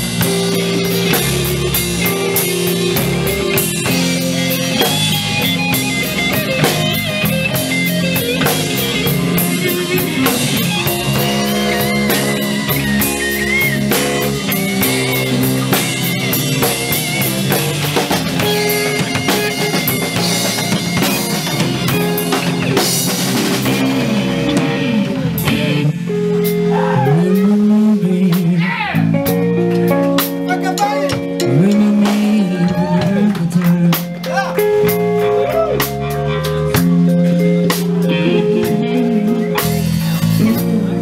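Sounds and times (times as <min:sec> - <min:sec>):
electric guitar solo: 0:00.0 - 0:27.5, 0:29.0 - 0:41.0
drum kit: 0:00.0 - 0:41.0
live blues band playing: 0:00.0 - 0:41.0.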